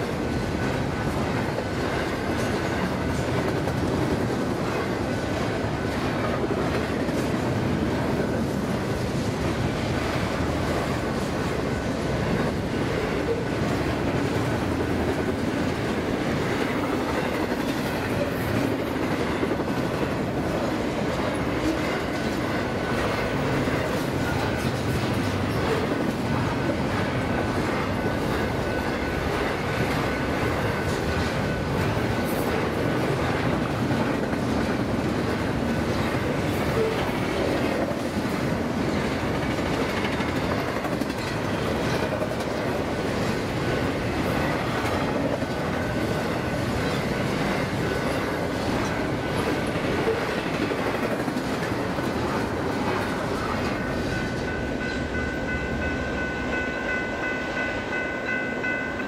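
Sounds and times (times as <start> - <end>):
wheels clacking over rail joints: 0.0 - 55.9
train wheels rushing on rails: 0.0 - 59.0.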